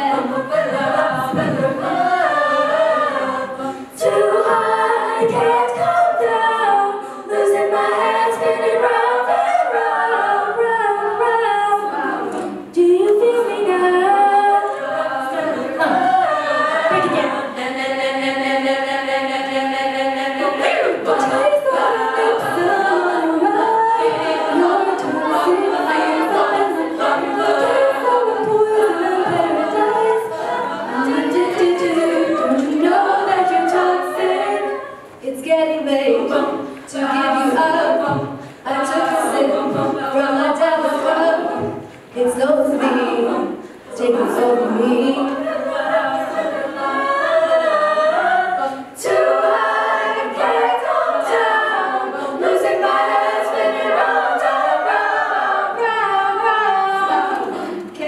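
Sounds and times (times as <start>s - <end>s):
girls' choir singing in harmony: 0.0s - 58.0s.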